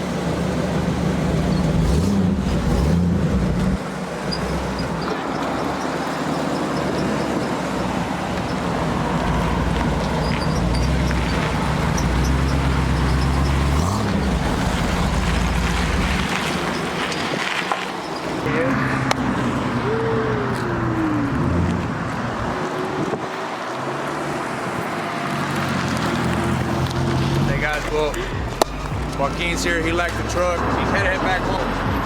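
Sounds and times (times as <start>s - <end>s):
road traffic noise: 0.0s - 32.0s
vehicle engine running: 0.0s - 32.0s.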